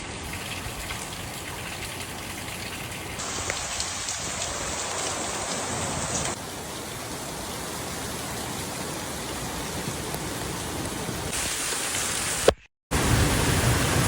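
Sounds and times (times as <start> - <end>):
steady rain: 0.0 - 14.0
raindrops ticking on a surface: 0.2 - 11.9.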